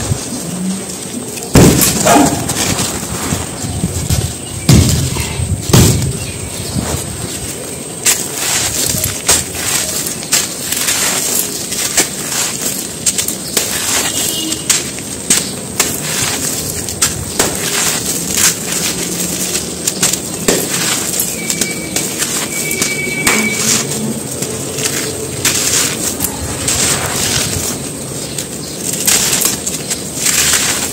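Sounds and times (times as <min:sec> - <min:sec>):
dry dirt crunching in hands: 0:00.0 - 0:30.9.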